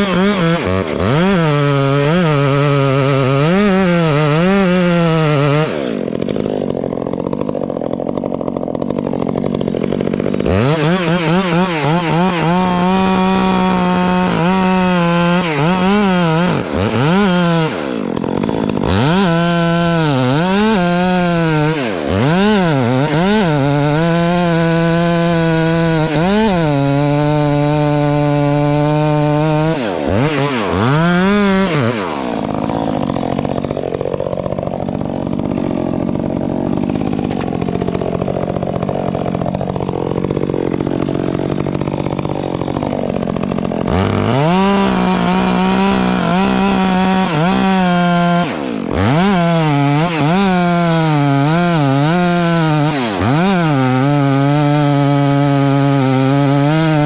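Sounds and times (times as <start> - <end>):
chainsaw cutting wood: 0.0 - 57.0
chainsaw revving: 0.0 - 57.0.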